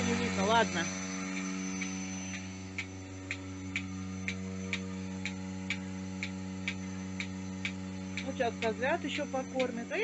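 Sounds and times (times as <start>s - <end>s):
milking machine pulsators clicking: 0.0s - 10.0s
vacuum pump humming: 0.0s - 10.0s.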